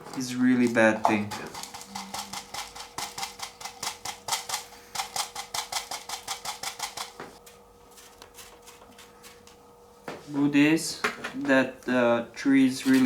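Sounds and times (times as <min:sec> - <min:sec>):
faint steady hum: 0:00.0 - 0:12.8.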